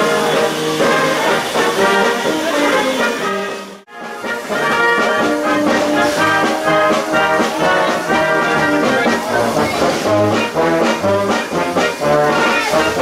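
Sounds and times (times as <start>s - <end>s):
trombones and trumpets playing: 0.0s - 13.0s.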